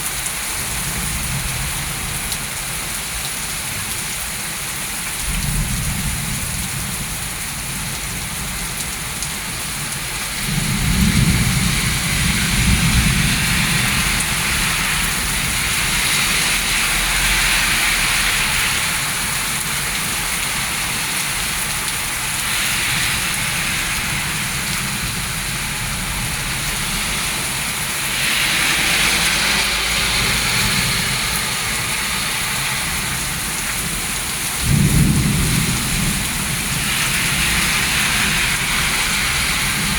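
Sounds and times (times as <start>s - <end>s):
heavy rain pouring: 0.0s - 39.9s
thunder rumbles: 5.2s - 17.4s, 18.0s - 39.9s.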